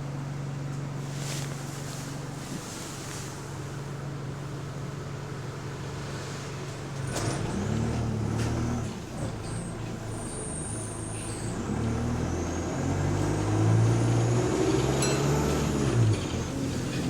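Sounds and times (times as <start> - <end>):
bus engine accelerating: 0.0 - 17.0.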